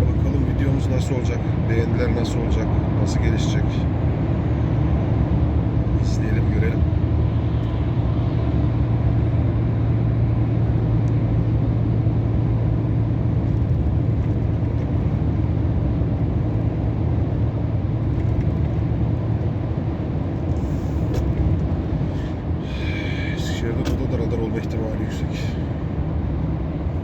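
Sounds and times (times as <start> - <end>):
road noise: 0.0 - 27.0
truck diesel engine drone: 0.0 - 27.0.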